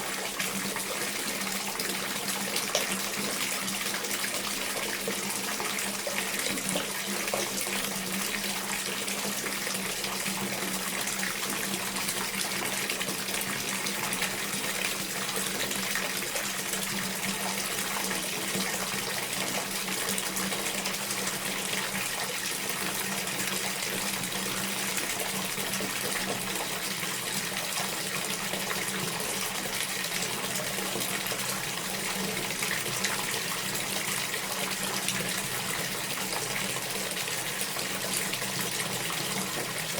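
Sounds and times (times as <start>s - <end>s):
tap water pouring into bathtub: 0.0s - 39.9s.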